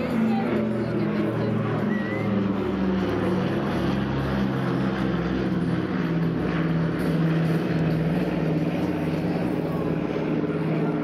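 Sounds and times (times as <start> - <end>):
propeller aircraft droning overhead: 0.0 - 11.0.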